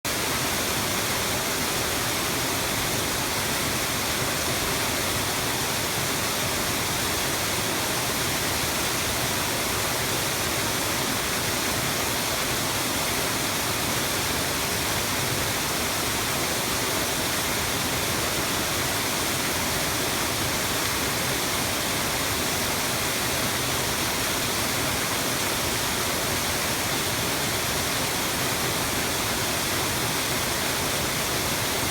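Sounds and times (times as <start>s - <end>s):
waterfall crashing: 0.1s - 31.9s.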